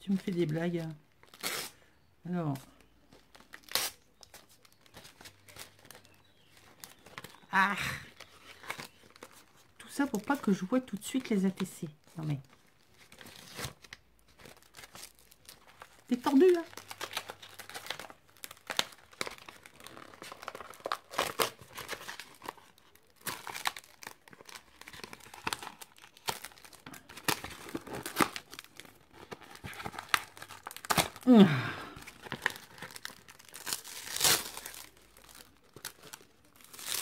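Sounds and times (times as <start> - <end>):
paper and plastic crinkling: 2.4 - 37.0.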